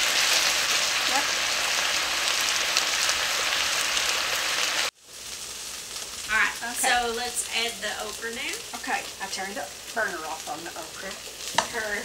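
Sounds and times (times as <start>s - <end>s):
okra sizzling in oil: 0.0s - 12.0s.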